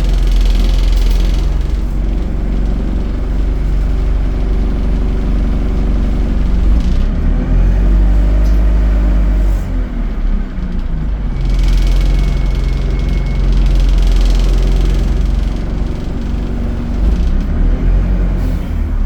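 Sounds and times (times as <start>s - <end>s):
bus diesel engine rumbling: 0.0s - 19.0s.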